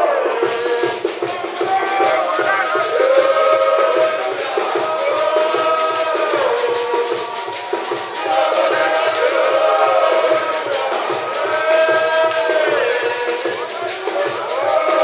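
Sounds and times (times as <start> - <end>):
fast percussion beat: 0.0 - 15.0
group singing a hymn: 0.0 - 15.0.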